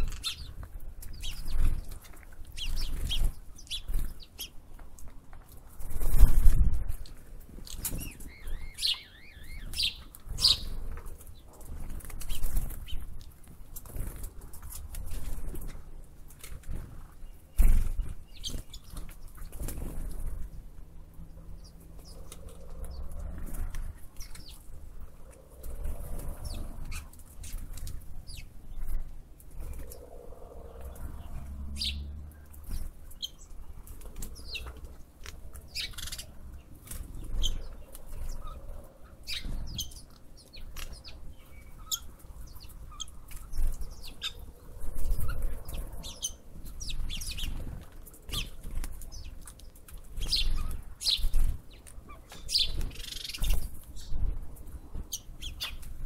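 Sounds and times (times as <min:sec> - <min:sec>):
small birds chirping: 0:00.0 - 0:56.0
wind buffeting microphone: 0:05.8 - 0:13.0, 0:16.8 - 0:49.2, 0:50.1 - 0:56.0.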